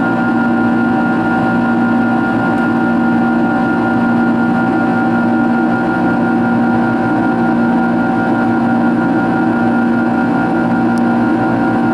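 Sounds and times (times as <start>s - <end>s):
jet engines in flight cabin drone: 0.0s - 11.9s.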